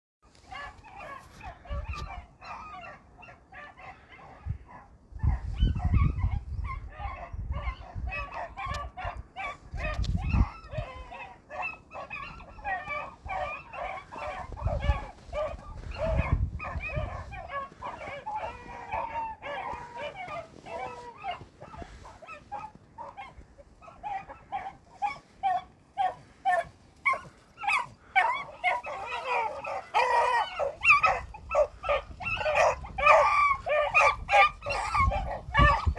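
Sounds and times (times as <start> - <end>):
hounds baying and yelping: 0.3 - 35.9.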